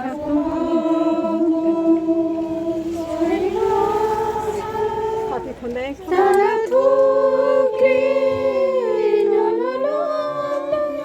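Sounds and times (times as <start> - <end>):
voices singing a hymn: 0.0 - 11.0.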